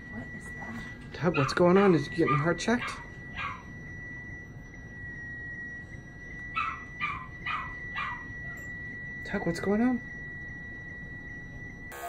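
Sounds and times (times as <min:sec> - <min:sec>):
steady high electronic tone: 0:00.0 - 0:12.0.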